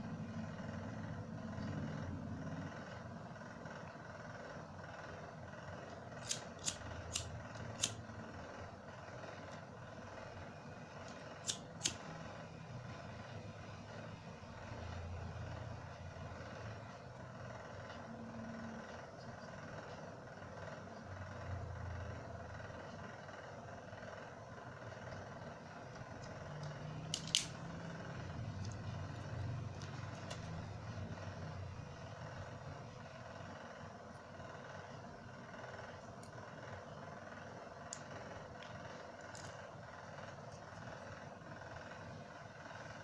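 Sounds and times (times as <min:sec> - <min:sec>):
low background hum: 0:00.0 - 0:43.0.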